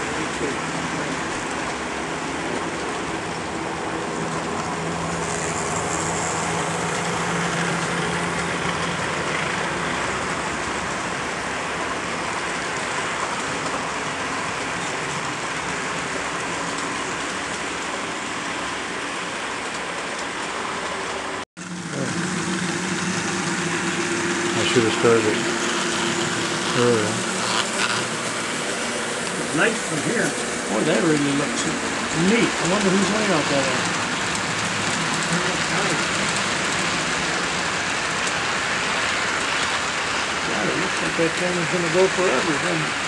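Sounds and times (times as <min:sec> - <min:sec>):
model train rolling whir: 0:00.0 - 0:43.0.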